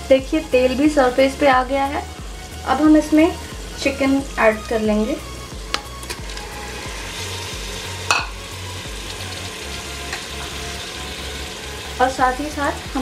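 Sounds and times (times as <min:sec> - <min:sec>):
oil sizzling in a pot: 0:00.0 - 0:13.0.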